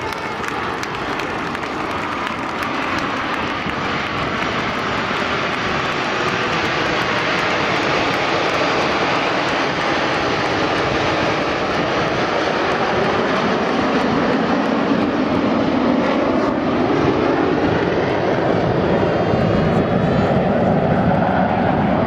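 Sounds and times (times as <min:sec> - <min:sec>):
jet aircraft flying past: 0:00.0 - 0:22.0.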